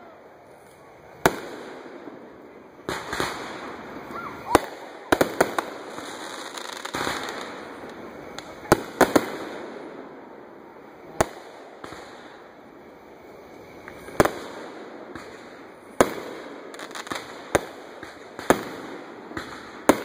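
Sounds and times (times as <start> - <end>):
fireworks bangs: 0.0 - 20.0
fireworks crackling and hissing: 0.0 - 20.0.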